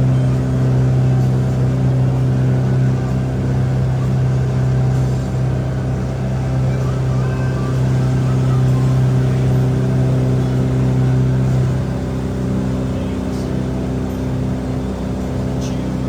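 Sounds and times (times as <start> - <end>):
boat engine low hum: 0.0 - 16.0.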